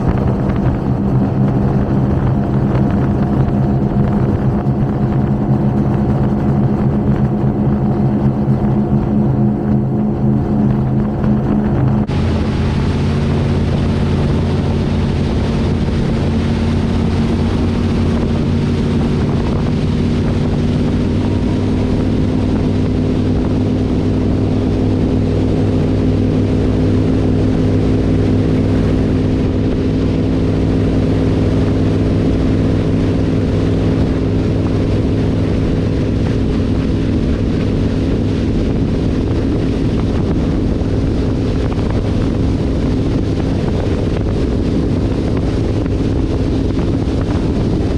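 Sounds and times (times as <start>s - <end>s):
boat engines running: 0.0s - 47.9s
wind buffeting microphone: 0.0s - 47.9s.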